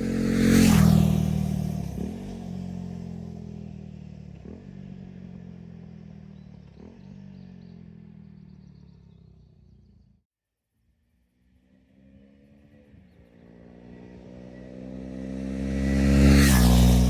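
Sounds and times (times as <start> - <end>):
motorcycle engine decelerating: 0.0 - 10.2, 11.4 - 17.0.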